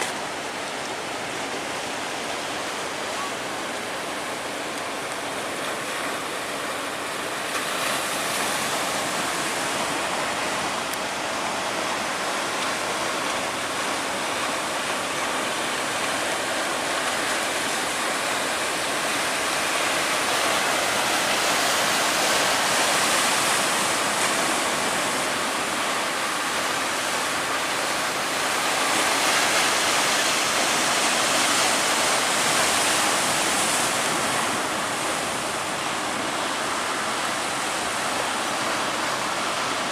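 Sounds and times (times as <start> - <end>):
breaking surf: 0.0 - 39.9.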